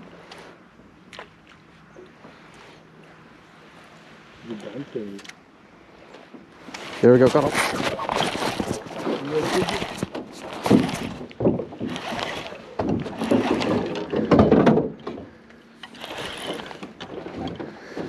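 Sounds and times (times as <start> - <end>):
rustling and water splashing: 0.0 - 18.0.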